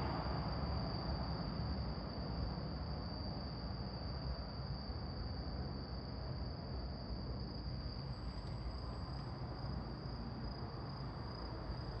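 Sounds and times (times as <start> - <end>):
crickets trilling: 0.1 - 12.0.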